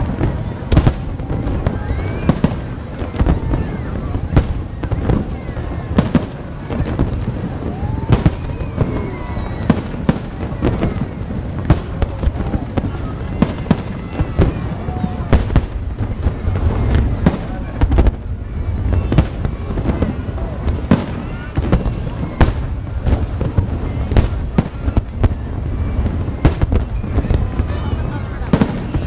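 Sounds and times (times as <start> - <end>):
fireworks bangs and cracks: 0.0 - 29.0
people's voices: 0.0 - 29.0.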